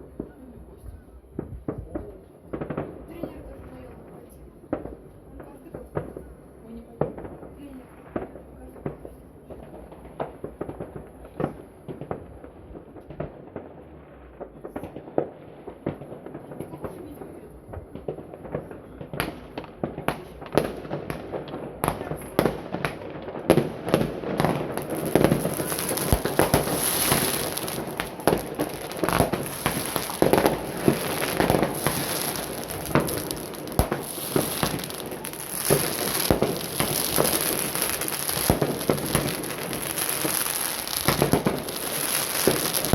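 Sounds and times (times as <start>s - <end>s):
fireworks bangs and crackle: 0.0s - 42.9s.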